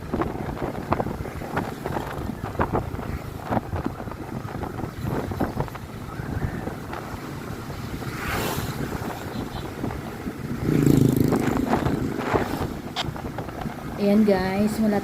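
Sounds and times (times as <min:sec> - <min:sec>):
motorcycle engine running: 0:00.0 - 0:14.4
wind noise on microphone: 0:00.0 - 0:15.0.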